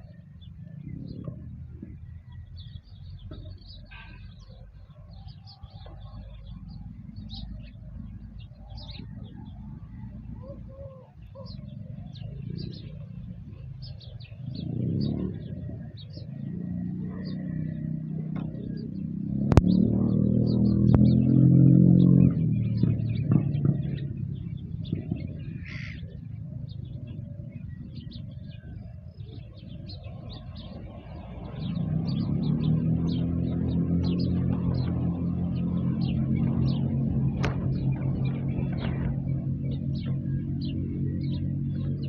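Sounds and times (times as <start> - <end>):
low rumble: 0.0 - 42.0
small birds chirping: 0.0 - 42.0.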